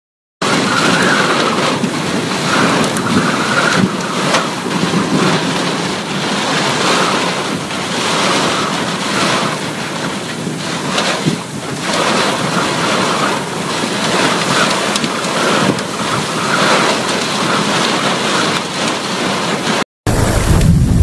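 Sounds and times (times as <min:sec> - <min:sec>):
heavy rain: 0:00.4 - 0:21.0
wind buffeting microphone: 0:00.4 - 0:21.0.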